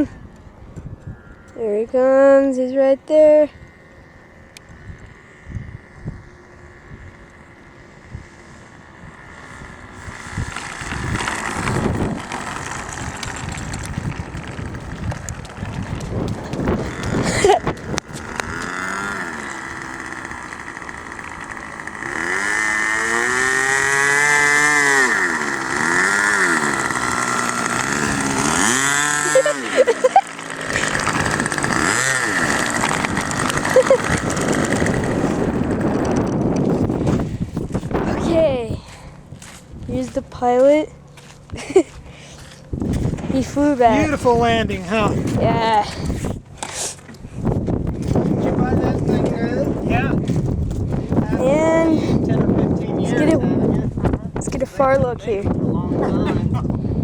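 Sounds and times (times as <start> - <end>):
model airplane engine: 0.0 - 57.0.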